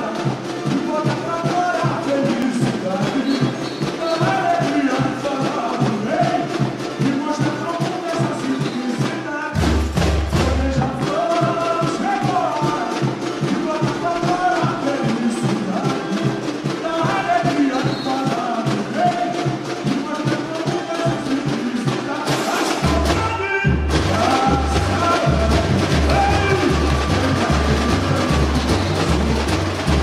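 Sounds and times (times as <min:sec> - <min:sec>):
voices singing: 0:00.0 - 0:09.7, 0:10.3 - 0:30.0
samba drums and percussion: 0:00.0 - 0:30.0.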